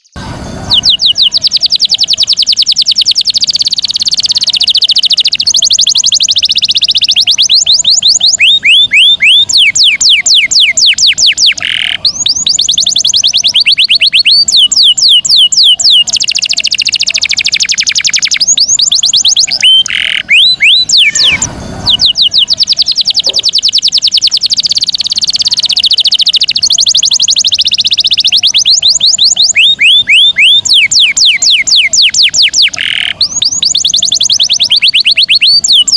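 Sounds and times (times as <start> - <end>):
canary singing trills: 0.0 - 35.9.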